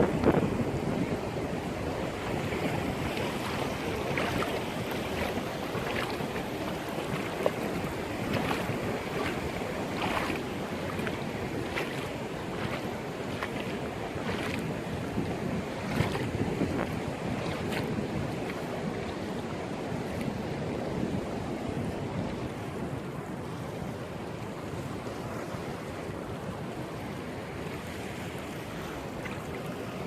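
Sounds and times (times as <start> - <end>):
sea waves washing in: 0.0 - 30.0.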